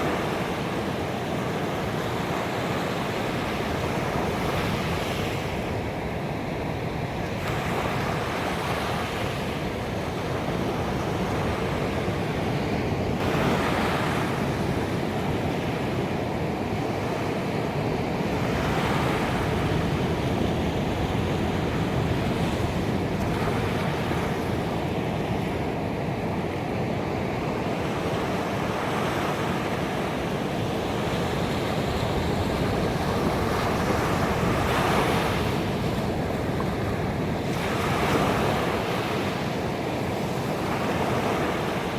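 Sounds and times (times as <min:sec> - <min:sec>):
ocean waves breaking on beach: 0:00.0 - 0:41.9.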